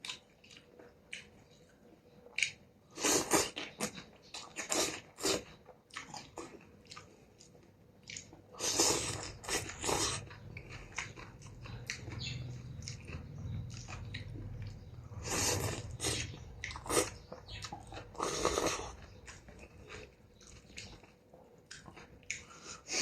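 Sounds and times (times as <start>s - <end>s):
person chewing noodle soup: 0.0s - 23.0s.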